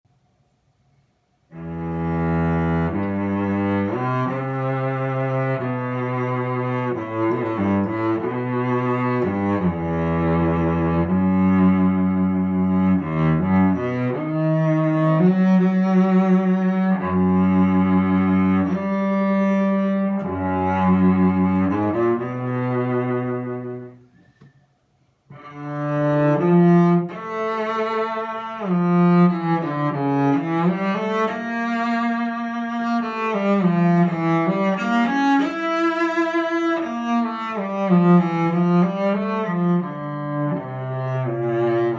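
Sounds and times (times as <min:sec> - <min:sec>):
bowed solo cello melody: 0:01.5 - 0:24.5, 0:25.3 - 0:41.9.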